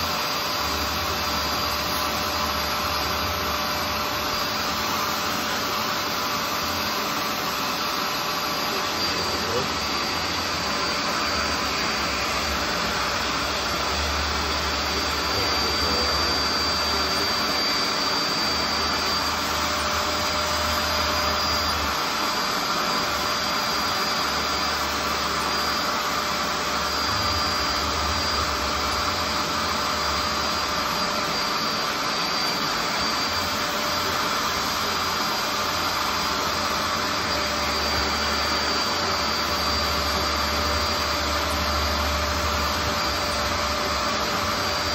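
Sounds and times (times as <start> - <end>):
carpet cleaner motor whining: 0.0 - 44.9.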